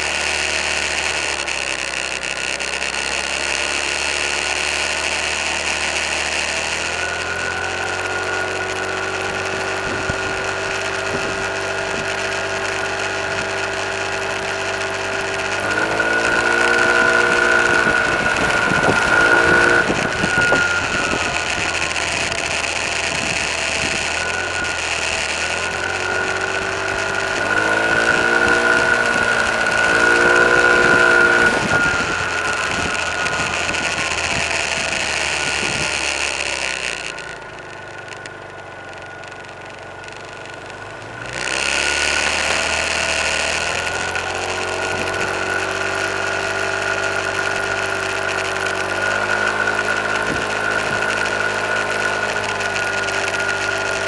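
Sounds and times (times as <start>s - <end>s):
car engine revving: 0.0s - 54.0s
steady high whine: 0.0s - 54.0s.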